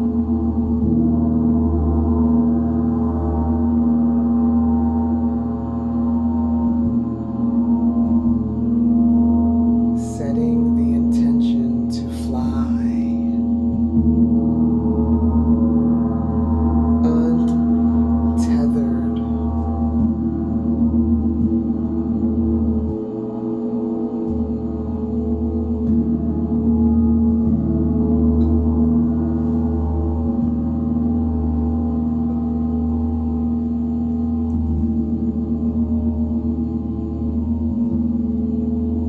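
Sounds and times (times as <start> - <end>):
gong shimmering: 0.0 - 39.0.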